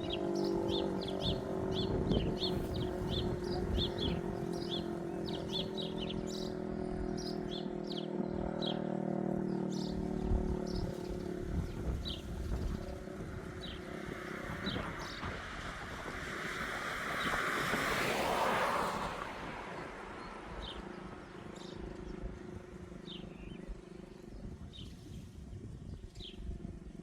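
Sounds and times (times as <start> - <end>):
wind buffeting microphone: 0.0 - 8.6, 9.3 - 27.0
small birds chirping: 0.0 - 15.4, 19.7 - 26.9.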